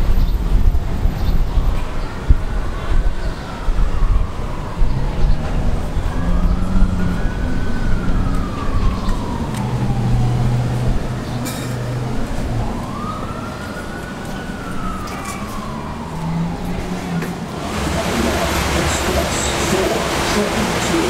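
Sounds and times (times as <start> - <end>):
wailing siren: 1.6 - 21.0.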